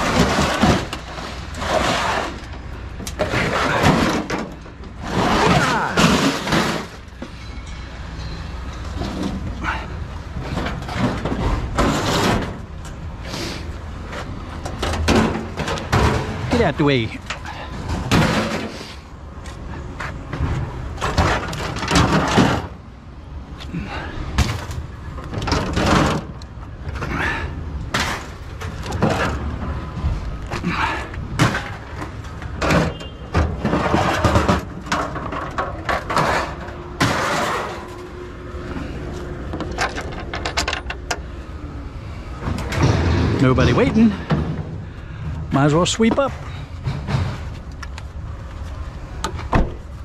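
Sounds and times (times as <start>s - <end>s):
scrap metal clanking and banging: 0.0s - 22.9s, 23.8s - 41.4s, 42.3s - 47.8s.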